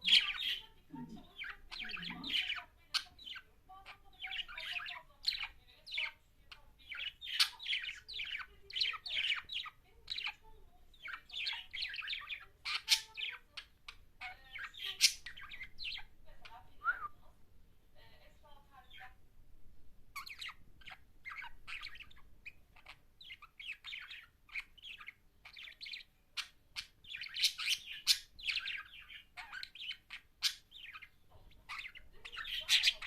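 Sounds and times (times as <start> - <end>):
budgerigar warbling and chirping: 0.0 - 16.6, 20.1 - 33.0.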